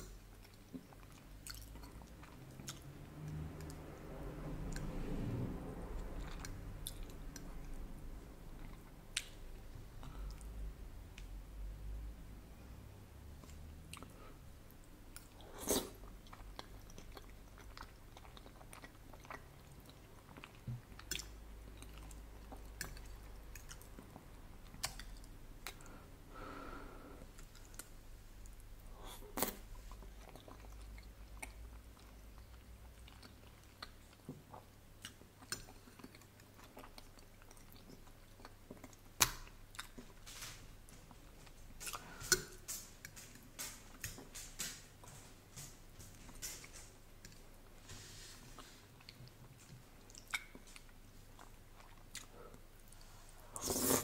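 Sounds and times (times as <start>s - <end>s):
wet chewing sounds: 0.0s - 11.3s, 13.4s - 26.0s, 27.2s - 54.0s.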